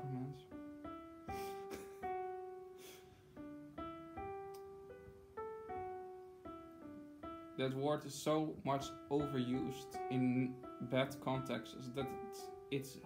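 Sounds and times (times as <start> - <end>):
slow piano notes ringing: 0.0 - 13.0.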